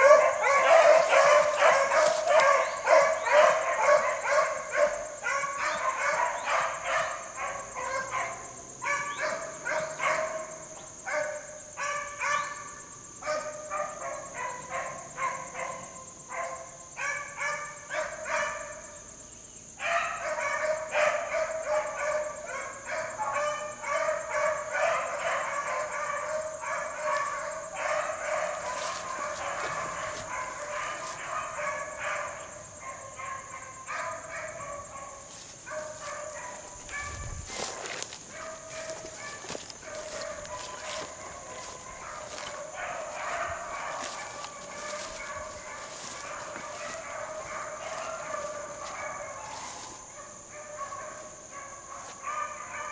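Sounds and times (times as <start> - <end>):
pack of dogs baying: 0.0 - 19.0, 19.7 - 52.9.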